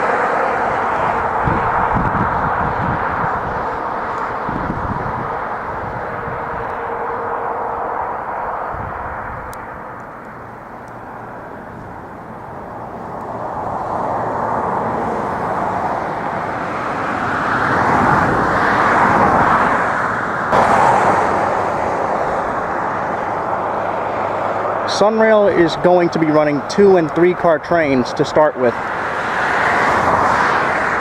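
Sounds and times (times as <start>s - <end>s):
passing vehicles rushing: 0.0s - 31.0s.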